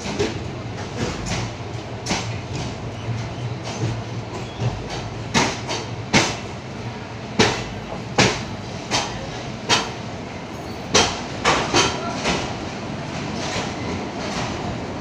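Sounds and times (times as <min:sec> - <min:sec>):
train wheels clacking over rail joints: 0:00.0 - 0:06.6, 0:07.2 - 0:15.0
steady train rumble: 0:00.0 - 0:15.0.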